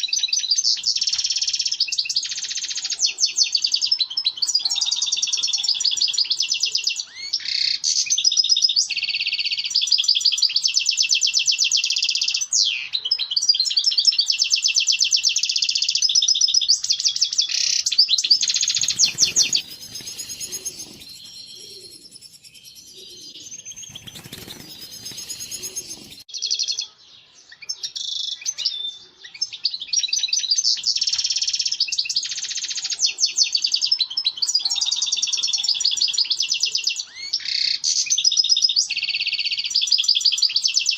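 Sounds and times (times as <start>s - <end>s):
goldfinch twitters and trills: 0.0s - 40.9s.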